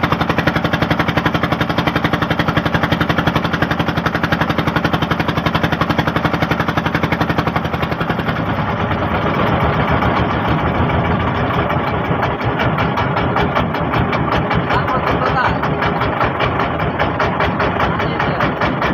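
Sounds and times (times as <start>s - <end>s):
motorboat engine running: 0.0s - 18.9s.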